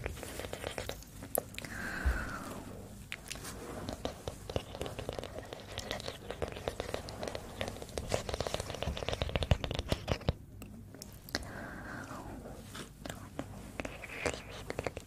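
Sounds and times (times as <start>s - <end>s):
close crackling and scratching: 0.0s - 15.0s.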